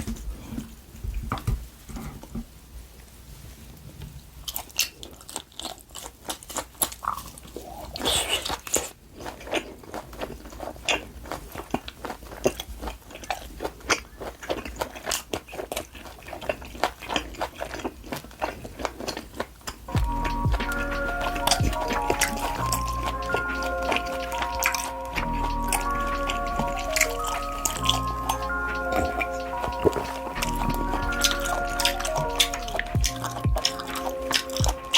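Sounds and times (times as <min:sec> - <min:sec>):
rustling: 0:00.0 - 0:34.9
biting and chewing meat: 0:04.3 - 0:34.9.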